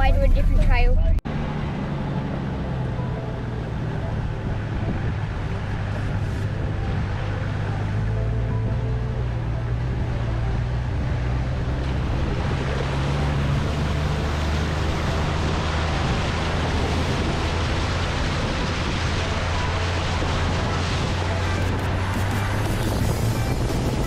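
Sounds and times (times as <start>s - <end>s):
engine drone: 0.0s - 24.0s
tyre and wind noise: 4.0s - 24.0s.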